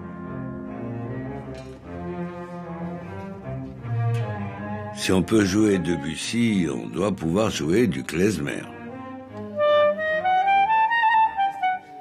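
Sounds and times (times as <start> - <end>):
string orchestra playing: 0.0 - 12.0.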